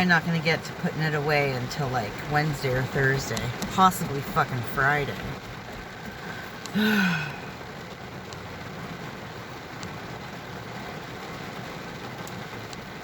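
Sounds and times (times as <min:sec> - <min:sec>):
car engine running: 0:00.0 - 0:13.0
rain falling: 0:00.0 - 0:13.0.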